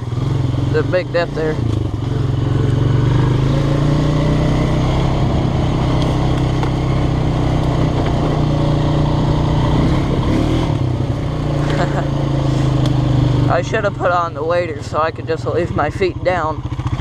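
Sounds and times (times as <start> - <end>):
atv engine running steadily: 0.0 - 17.0.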